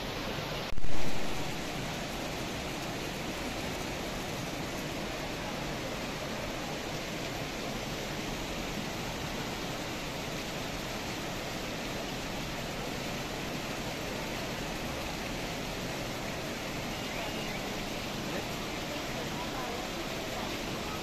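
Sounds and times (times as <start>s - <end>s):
heavy rain and rushing runoff: 0.0s - 21.0s.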